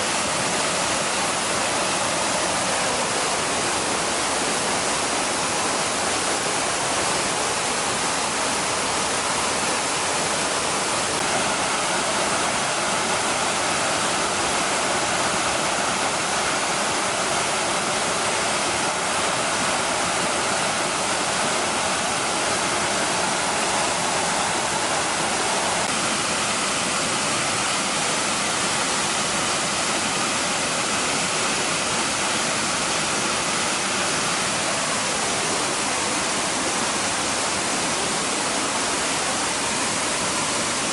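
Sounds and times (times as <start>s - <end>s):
waterfall pouring and splashing: 0.0s - 40.9s.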